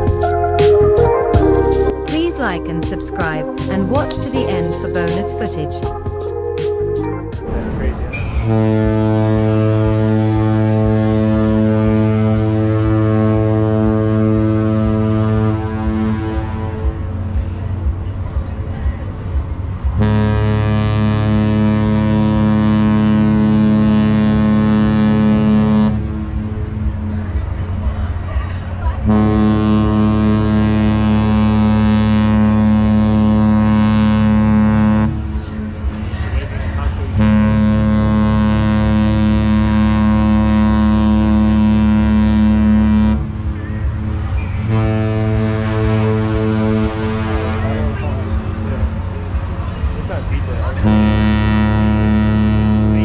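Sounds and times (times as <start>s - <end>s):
ship horn deep blast: 0.0s - 17.8s, 20.0s - 27.2s, 29.0s - 35.8s, 37.1s - 49.4s, 50.8s - 53.0s.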